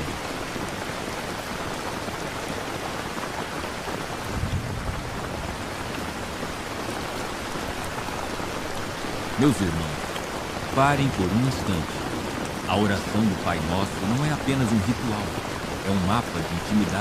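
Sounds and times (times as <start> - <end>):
steady rain: 0.0 - 17.0
waterfall: 0.0 - 17.0.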